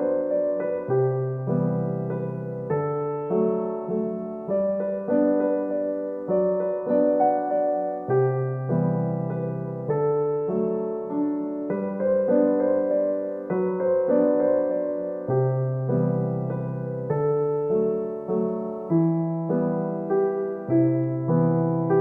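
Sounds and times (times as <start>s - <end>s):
gentle solo piano piece: 0.0s - 22.0s.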